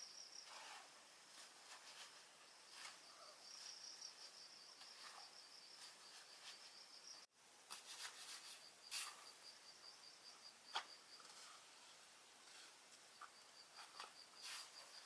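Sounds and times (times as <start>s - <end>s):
insects chirping: 0.0s - 7.3s, 8.1s - 15.0s.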